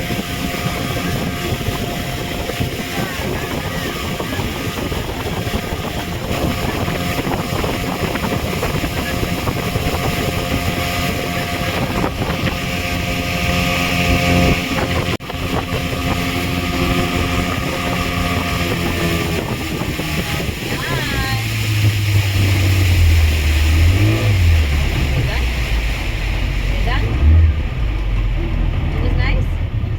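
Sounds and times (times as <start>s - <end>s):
motorboat engine running: 0.0s - 29.9s
rushing water: 0.0s - 29.9s
wind buffeting microphone: 0.0s - 29.9s.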